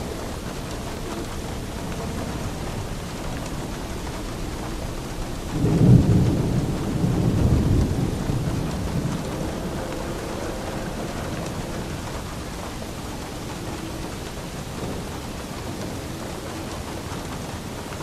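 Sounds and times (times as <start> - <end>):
steady rain: 0.0 - 18.0
thunder rumbling: 0.0 - 18.0.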